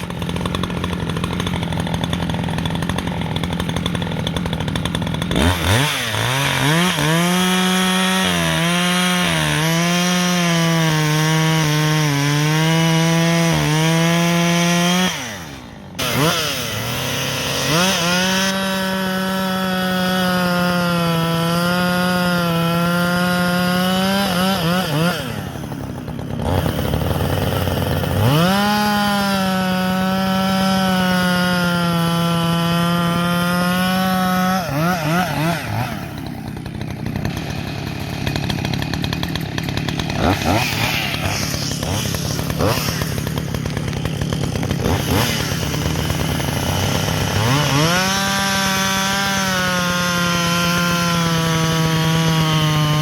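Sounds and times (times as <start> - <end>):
chainsaw cutting firewood: 0.0 - 53.0.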